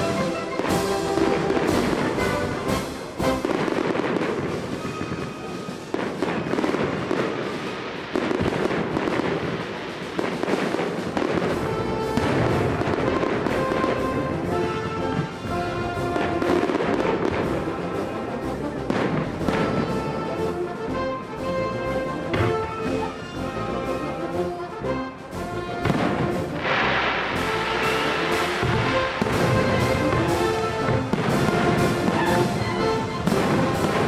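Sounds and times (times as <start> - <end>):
fireworks bursting: 0.0 - 24.2, 25.6 - 34.0
music playing: 0.0 - 34.0.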